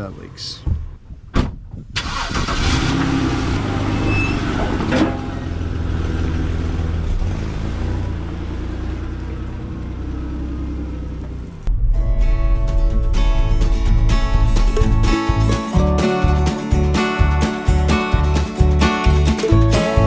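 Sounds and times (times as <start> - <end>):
car engine starting and idling: 1.9 - 20.0.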